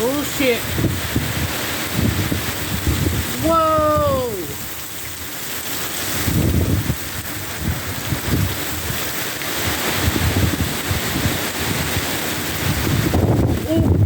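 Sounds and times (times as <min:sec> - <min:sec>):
storm wind gusting: 0:00.0 - 0:14.0
wind buffeting microphone: 0:00.0 - 0:14.0.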